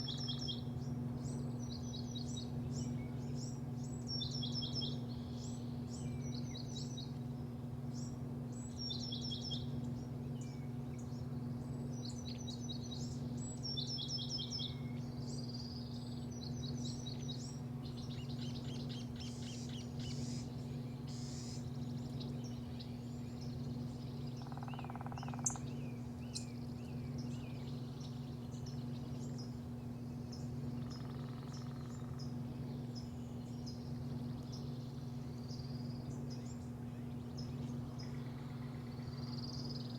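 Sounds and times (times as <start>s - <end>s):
small birds chirping and singing: 0.0s - 7.3s, 7.9s - 39.9s
steady low hum: 0.0s - 39.9s.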